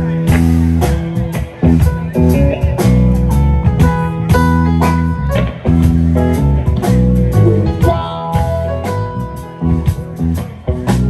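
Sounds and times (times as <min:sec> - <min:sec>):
bass: 0:00.0 - 0:11.0
drums: 0:00.0 - 0:11.0
guitars: 0:00.0 - 0:11.0.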